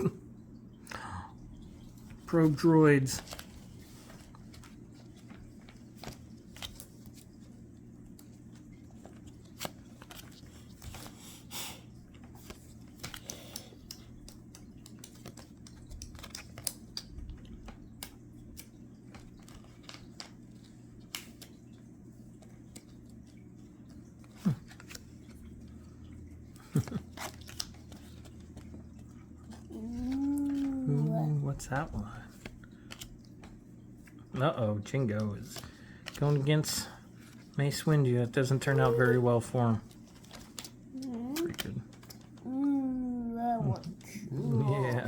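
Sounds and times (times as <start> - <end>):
cards rustling and clicking: 2.0 - 34.2, 34.9 - 45.0.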